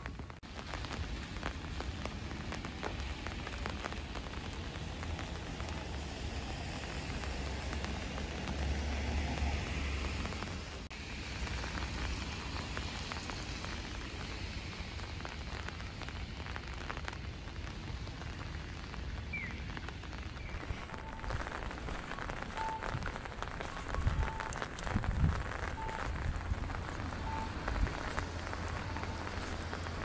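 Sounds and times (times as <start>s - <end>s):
rain on wet pavement: 0.0s - 30.0s.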